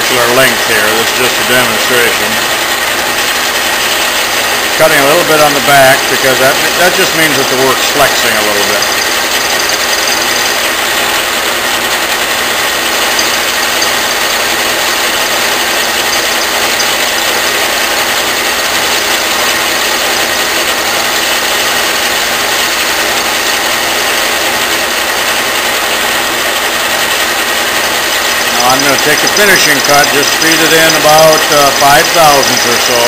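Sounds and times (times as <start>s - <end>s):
metal lathe cutting aluminum bar: 0.0s - 33.0s.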